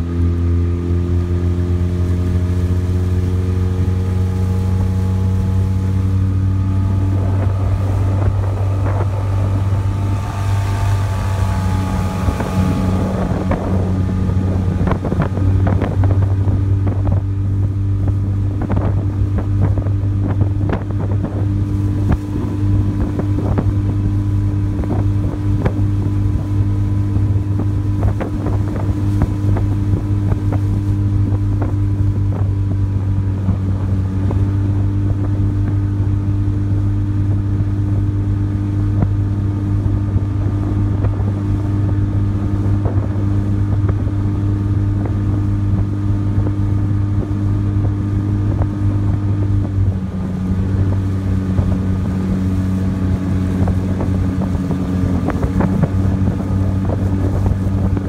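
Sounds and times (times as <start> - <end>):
outboard motor humming: 0.0 - 58.0.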